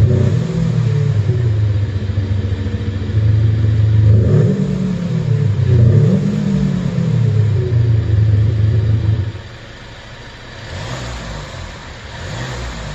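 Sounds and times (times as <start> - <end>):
synthetic exhaust note: 0.0 - 12.9.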